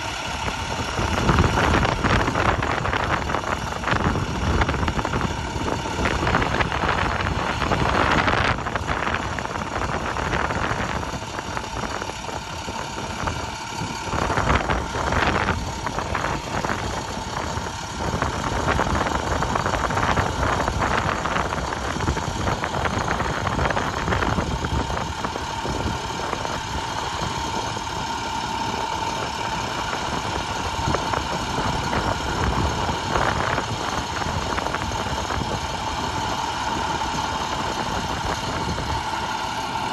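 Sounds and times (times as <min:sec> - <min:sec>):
steady whine: 0:00.0 - 0:39.9
truck engine idling: 0:00.0 - 0:39.9.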